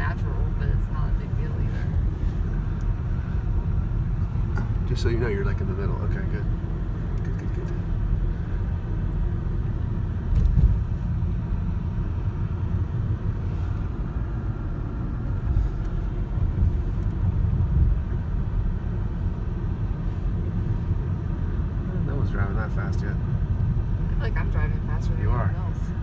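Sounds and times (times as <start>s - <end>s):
car interior engine and tyre rumble: 0.0s - 26.0s.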